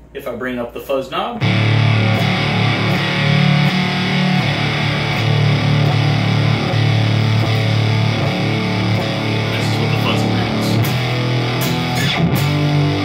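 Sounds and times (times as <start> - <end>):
fuzz electric guitar notes: 1.4 - 13.0.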